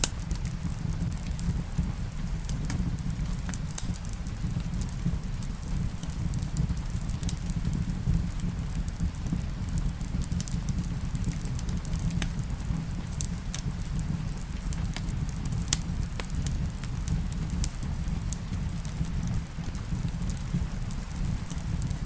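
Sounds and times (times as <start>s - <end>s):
low rumble of fire: 0.0s - 22.0s
steady rain: 0.0s - 22.0s
wood fire crackling: 0.0s - 22.0s.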